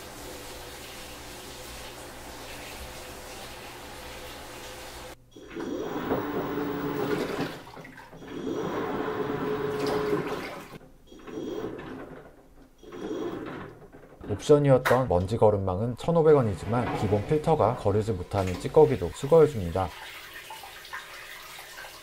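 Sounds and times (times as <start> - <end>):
washing machine churning water: 0.0 - 14.7, 16.4 - 22.0
washing machine hum: 0.0 - 22.0.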